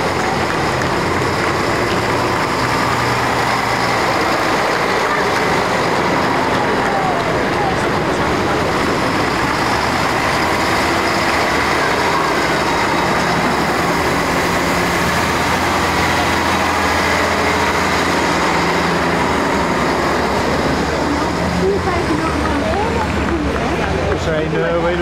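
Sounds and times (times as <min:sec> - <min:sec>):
heavy vehicle engines driving past: 0:00.0 - 0:25.0.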